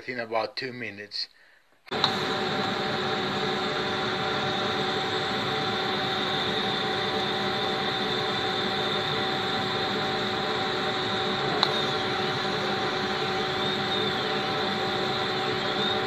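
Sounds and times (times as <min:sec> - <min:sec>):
high whine: 0:01.9 - 0:16.0
laser cutter whirring: 0:01.9 - 0:16.0.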